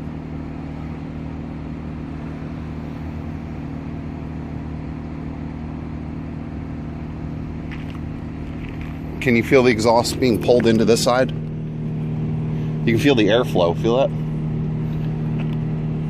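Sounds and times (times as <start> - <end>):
muffled generator engine running: 0.0 - 16.0.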